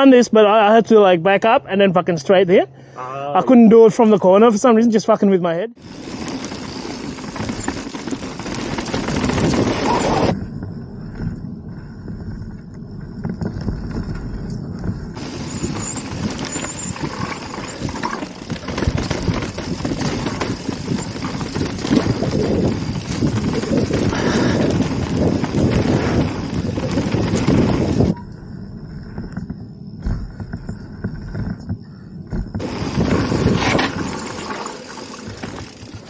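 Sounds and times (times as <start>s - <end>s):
bike rattling over bumps: 5.8s - 36.0s
bike tyres crunching on dirt: 5.8s - 36.0s.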